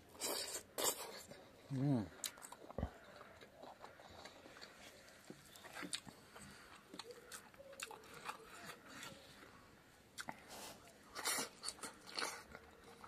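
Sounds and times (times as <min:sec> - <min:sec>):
man chewing and lip smacking: 0:00.1 - 0:09.3, 0:10.2 - 0:13.0.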